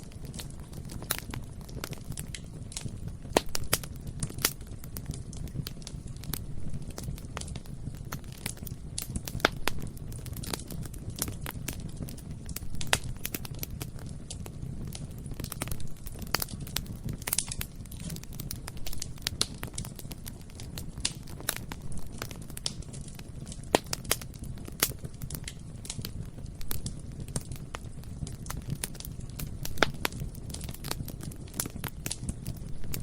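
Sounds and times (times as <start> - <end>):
fire crackling and popping: 0.0 - 33.0
low rumble of flame: 0.0 - 33.0.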